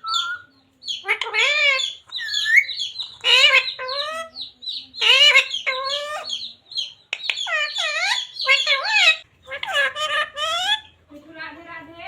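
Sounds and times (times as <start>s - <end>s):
parrot talking: 0.0s - 11.0s.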